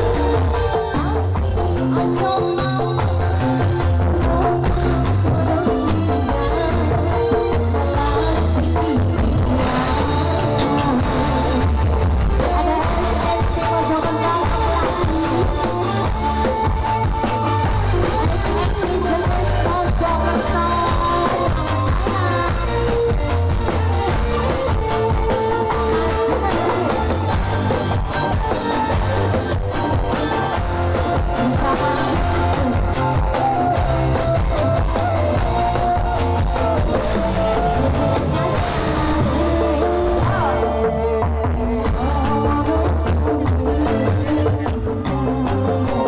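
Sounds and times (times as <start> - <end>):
live band music over pa: 0.0 - 46.0
person singing: 0.0 - 46.0.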